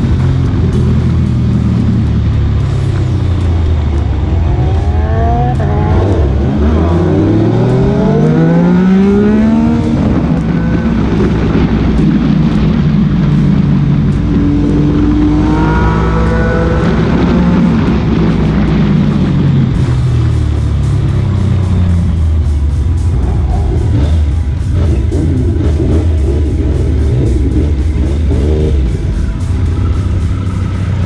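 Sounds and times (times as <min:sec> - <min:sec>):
motorcycle engines accelerating: 0:00.0 - 0:31.0.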